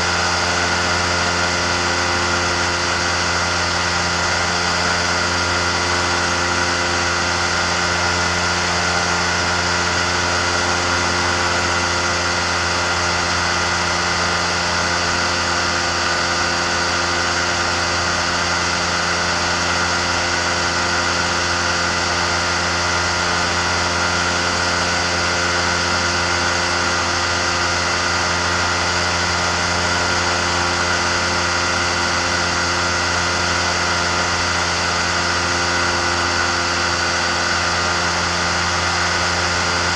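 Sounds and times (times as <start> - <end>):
microlight engine and propeller drone: 0.0 - 39.9.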